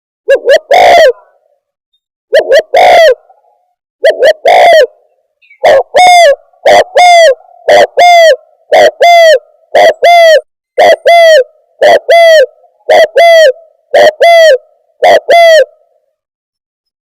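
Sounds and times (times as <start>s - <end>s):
dove cooing: 0.3s - 1.4s, 2.3s - 15.9s.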